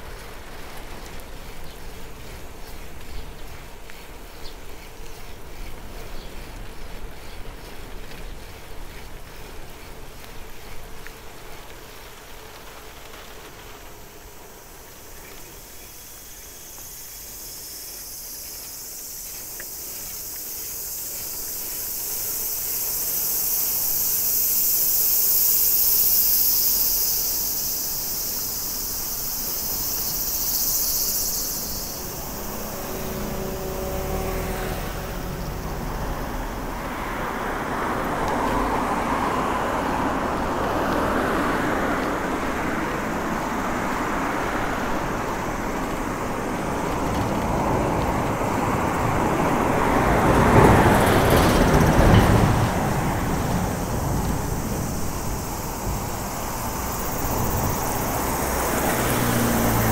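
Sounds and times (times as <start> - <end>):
cicadas singing: 0.0 - 59.9.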